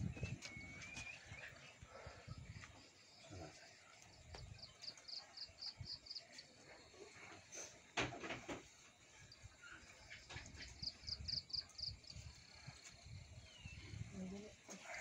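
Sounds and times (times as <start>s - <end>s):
faint rural outdoor ambience: 0.0s - 15.0s.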